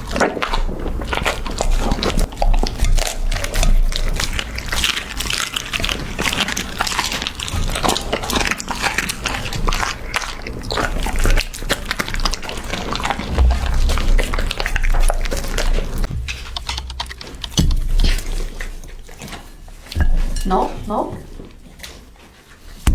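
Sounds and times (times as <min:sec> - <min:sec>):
puppy chewing meat: 0:00.0 - 0:13.9, 0:14.6 - 0:22.9.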